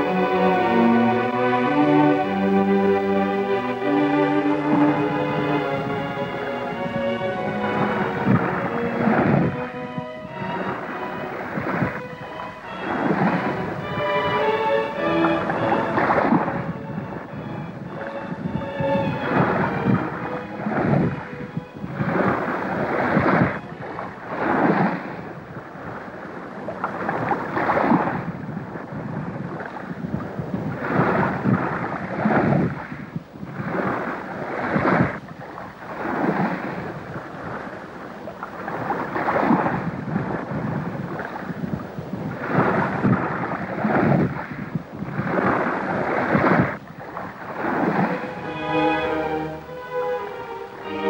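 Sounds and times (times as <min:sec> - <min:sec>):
rushing surf: 0:00.0 - 0:51.0.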